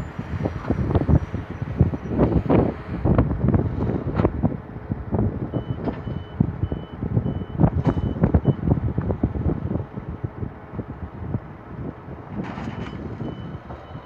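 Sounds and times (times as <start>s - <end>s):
tractor and baler running: 0.0s - 14.0s
wind buffeting microphone: 0.0s - 14.0s.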